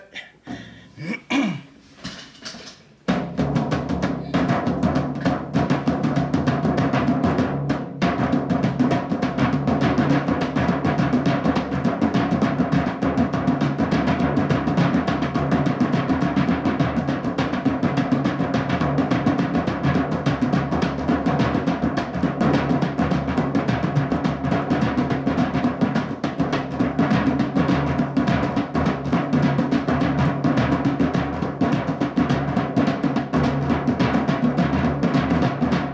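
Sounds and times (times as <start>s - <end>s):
fast drum strokes: 0.0s - 35.9s.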